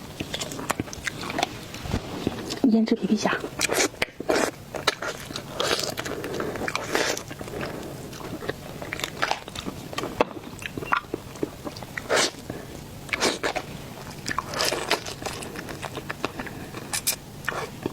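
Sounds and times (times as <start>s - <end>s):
crunchy biting and chewing: 0.1s - 2.6s, 3.4s - 17.9s.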